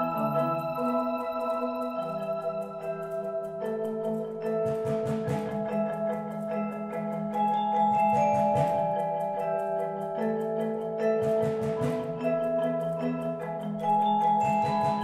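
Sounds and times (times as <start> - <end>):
mallet percussion ensemble: 0.0 - 15.0.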